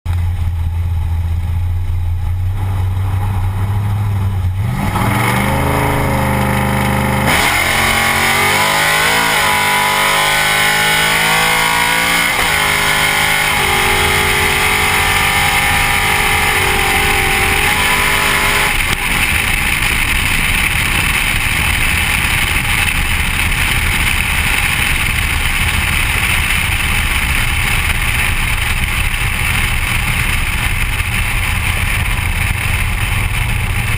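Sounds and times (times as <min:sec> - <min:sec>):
wind and road rush: 0:00.1 - 0:33.9
race car engine revving: 0:02.5 - 0:33.9.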